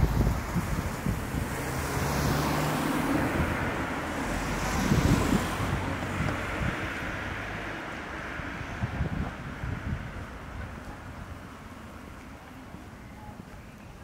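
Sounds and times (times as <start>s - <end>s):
cars passing: 0.0s - 14.0s
wind rumble on microphone: 0.0s - 14.0s.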